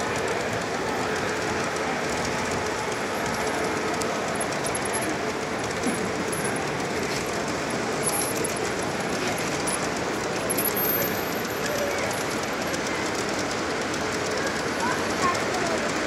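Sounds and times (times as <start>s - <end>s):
model train wheels clicking: 0.0s - 16.0s
murmur of a crowded hall: 0.0s - 16.0s.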